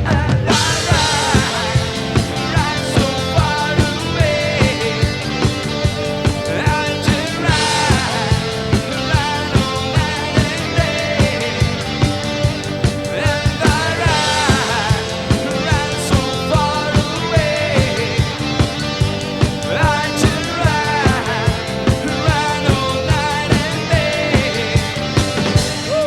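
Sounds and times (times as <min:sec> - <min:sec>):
rock band music: 0:00.0 - 0:26.0.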